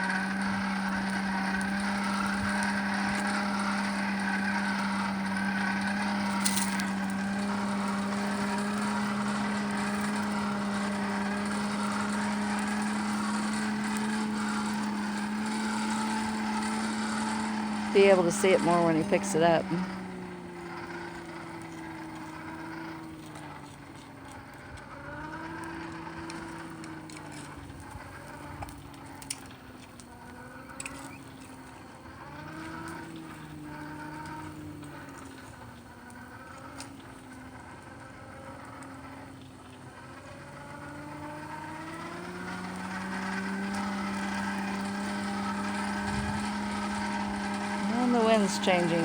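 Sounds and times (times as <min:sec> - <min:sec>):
motor humming: 0:00.0 - 0:49.0.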